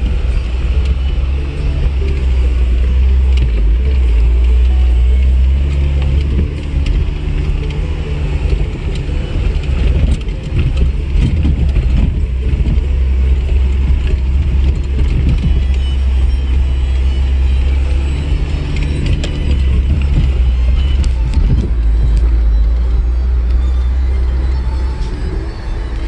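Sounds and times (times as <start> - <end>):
knocks and rattles from bumpy ride: 0.0 - 26.0
vehicle engine running low: 0.0 - 26.0.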